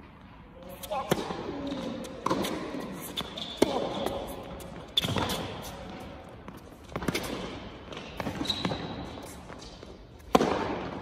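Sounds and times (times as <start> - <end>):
racket hitting tennis ball: 0.0 - 11.0.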